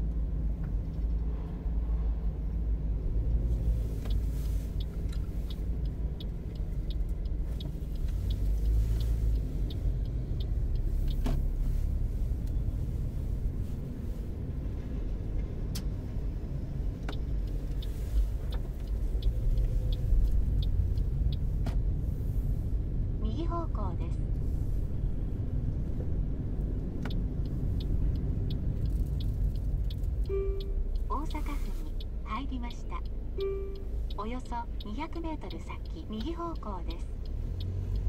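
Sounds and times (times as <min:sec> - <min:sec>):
low rumble of engine and tyres: 0:00.0 - 0:38.0
turn signal ticking: 0:02.2 - 0:38.0.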